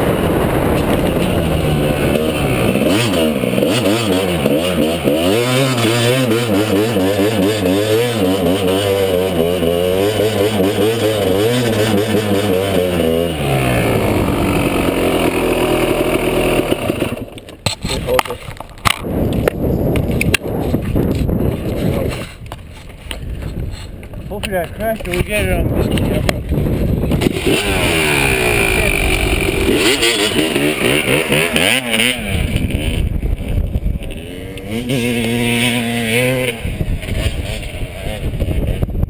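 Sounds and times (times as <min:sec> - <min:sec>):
dirt bike engine revving: 0:00.0 - 0:18.0, 0:25.4 - 0:39.0.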